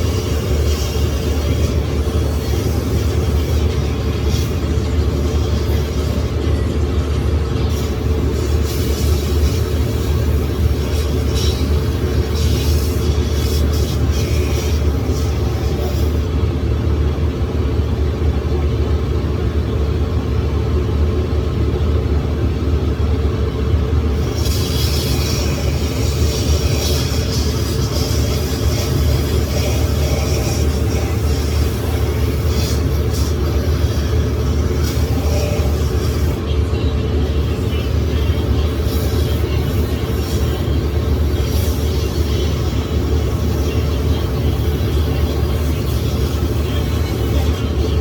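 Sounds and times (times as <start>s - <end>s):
grinding machine droning: 0.0s - 48.0s.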